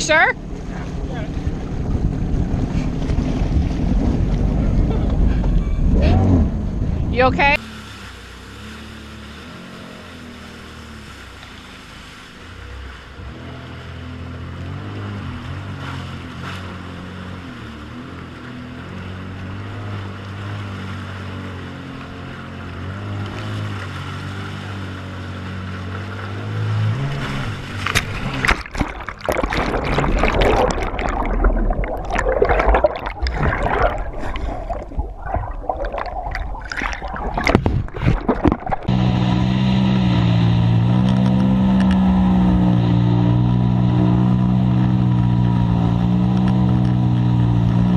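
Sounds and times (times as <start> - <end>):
jet ski engine running: 0.0 - 47.9
rushing and splashing water: 7.2 - 47.9.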